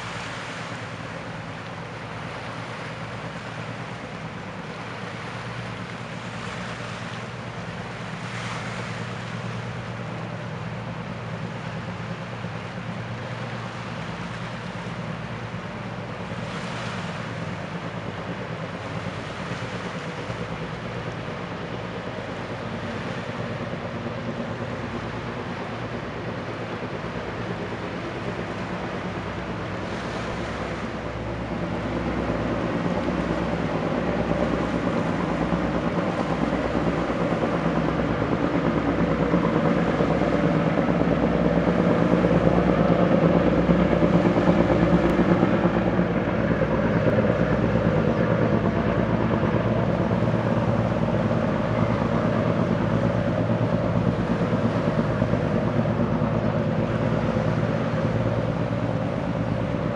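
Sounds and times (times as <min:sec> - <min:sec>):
boat diesel engine throbbing: 0:00.0 - 0:59.9
rushing wash of bow wave: 0:00.0 - 0:59.9.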